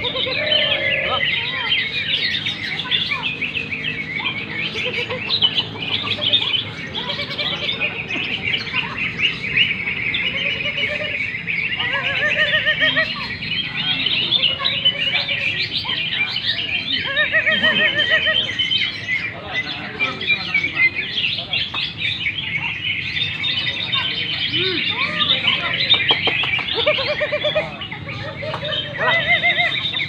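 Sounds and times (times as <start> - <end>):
birds chirping and trilling: 0.0 - 30.0
low looping bird notes: 0.0 - 30.0.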